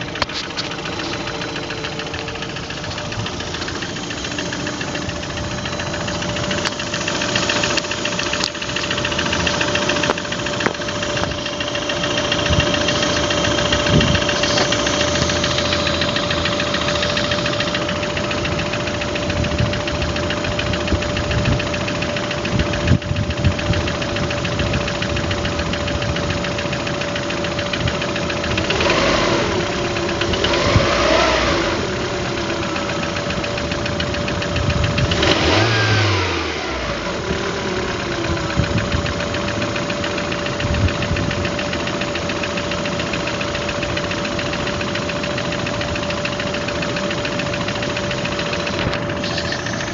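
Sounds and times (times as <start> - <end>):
car engine knocking: 0.0 - 49.9
car engine revving: 0.0 - 49.9
steady whine: 0.0 - 49.9.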